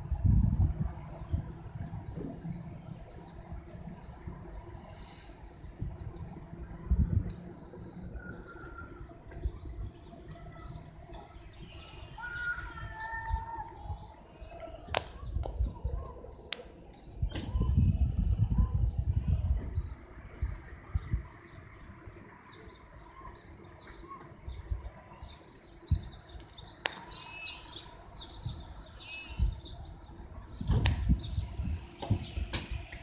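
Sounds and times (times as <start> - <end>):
small birds chirping: 0.2 - 33.0.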